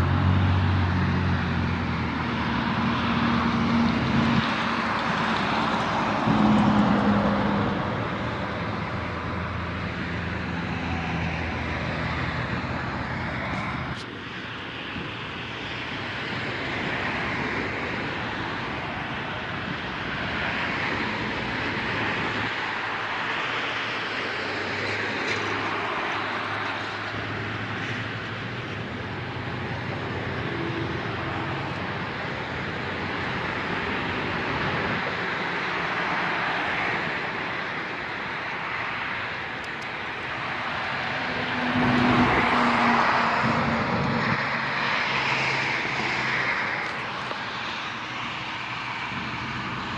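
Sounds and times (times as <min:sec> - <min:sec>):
road traffic with trucks passing: 0:00.0 - 0:49.9.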